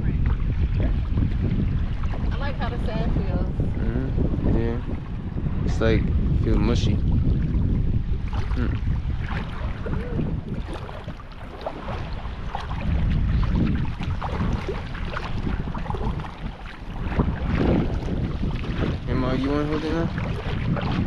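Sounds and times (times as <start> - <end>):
water lapping and splashing: 0.0 - 21.0
wind buffeting microphone: 0.0 - 21.0.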